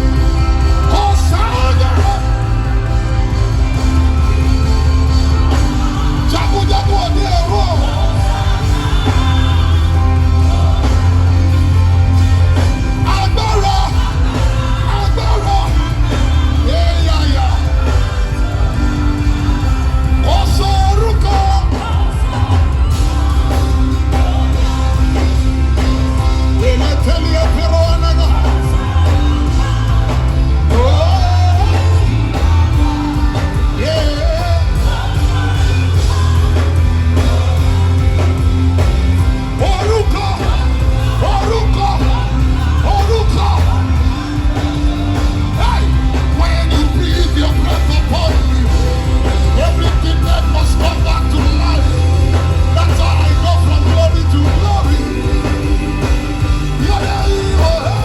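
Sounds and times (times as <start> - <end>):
heavy sustained bass: 0.0 - 58.0
live worship band music: 0.0 - 58.0
voices singing and yelling: 0.0 - 58.0.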